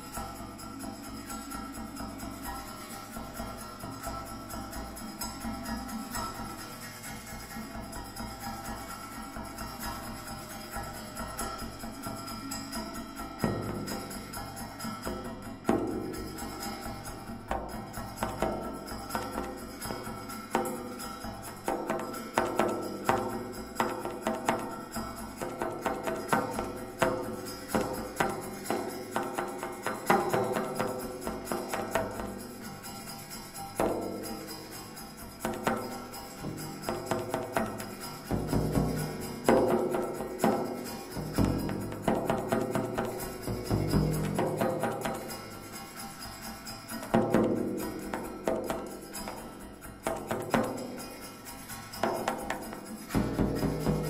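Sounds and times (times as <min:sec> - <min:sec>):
percussive music with ringing hits: 0:00.0 - 0:54.0.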